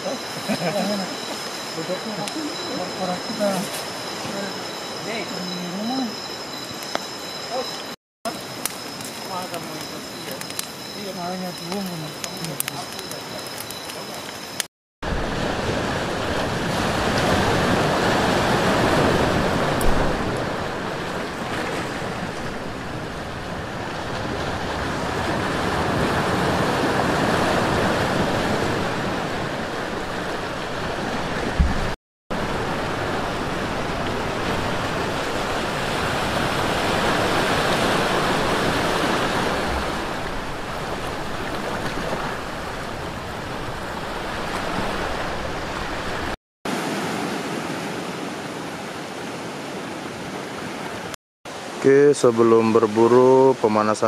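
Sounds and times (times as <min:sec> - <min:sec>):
surf washing over rocks: 0:08.3 - 0:53.0.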